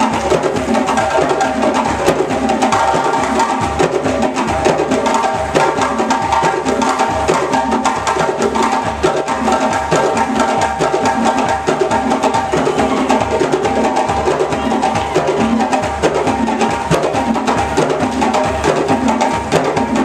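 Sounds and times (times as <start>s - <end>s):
hand drum ensemble playing: 0.0s - 20.0s.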